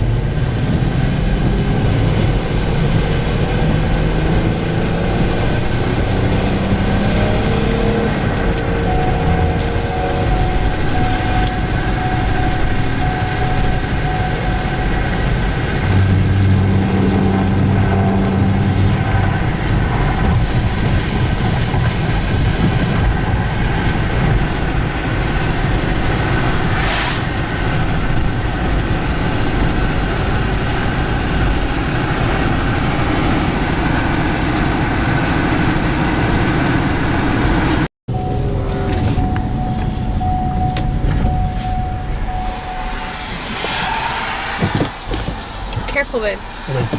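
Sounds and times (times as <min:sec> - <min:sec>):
deep engine drone: 0:00.0 - 0:45.1
tyre and wind rumble: 0:00.0 - 0:46.9.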